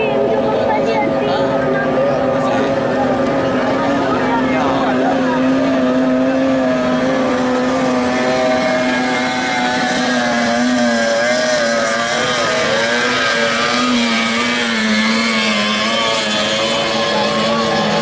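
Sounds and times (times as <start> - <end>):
outboard motor boats racing: 0.0 - 18.0.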